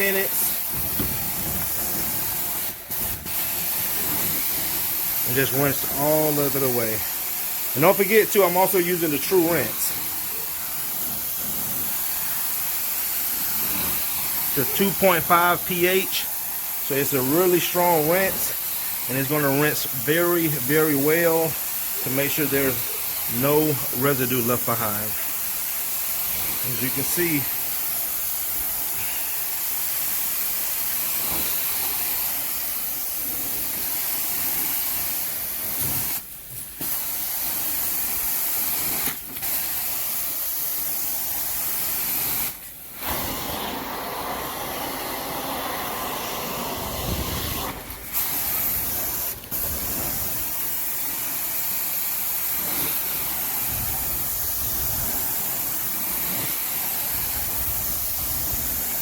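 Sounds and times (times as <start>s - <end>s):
extraction wand spraying and sucking: 0.0s - 59.0s.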